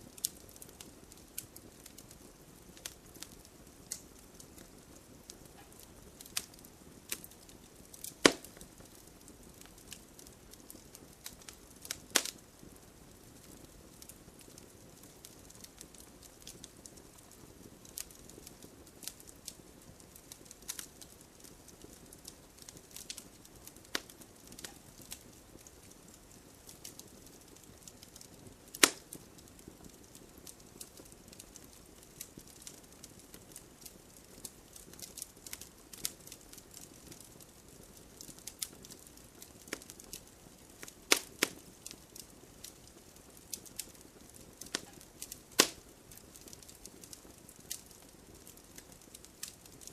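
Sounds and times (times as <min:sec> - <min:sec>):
campfire crackling: 0:00.0 - 0:49.9
soft low hiss: 0:00.0 - 0:49.9.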